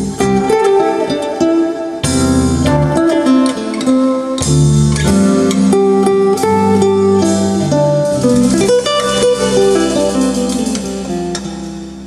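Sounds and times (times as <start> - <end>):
recorded guitar music: 0.0 - 12.0.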